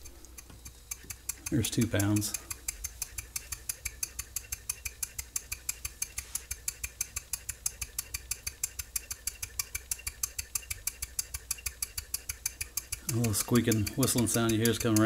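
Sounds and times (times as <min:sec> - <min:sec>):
steam engine ticking: 0:00.0 - 0:15.0.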